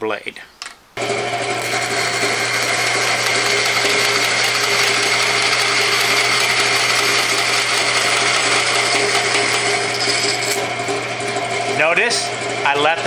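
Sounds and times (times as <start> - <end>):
band saw cutting wood: 1.0 - 13.0
band saw humming: 1.0 - 13.0.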